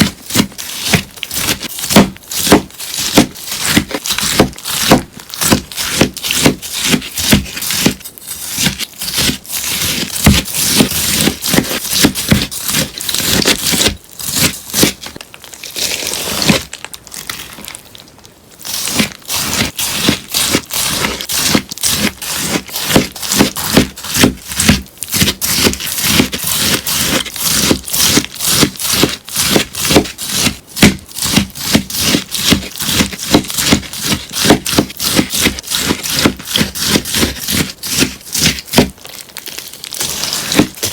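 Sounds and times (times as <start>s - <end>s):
crunchy sponge cutting: 0.0s - 40.9s.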